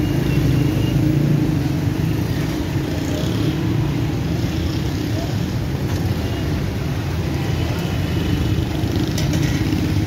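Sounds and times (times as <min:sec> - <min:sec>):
low rumble of motor traffic: 0:00.0 - 0:10.0.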